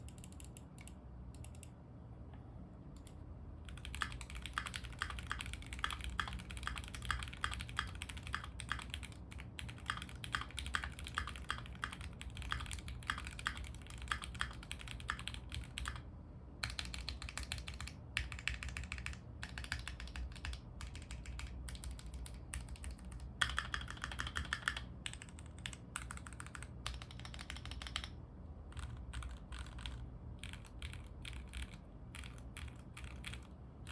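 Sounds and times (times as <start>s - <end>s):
mechanical keyboard typing: 0.0s - 1.7s, 3.0s - 33.9s
low steady hum: 0.0s - 33.9s.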